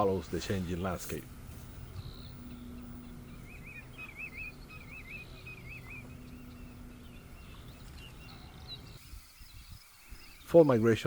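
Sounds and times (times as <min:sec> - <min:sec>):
low outdoor rumble: 0:00.0 - 0:09.0
bird whistling call: 0:01.7 - 0:10.6.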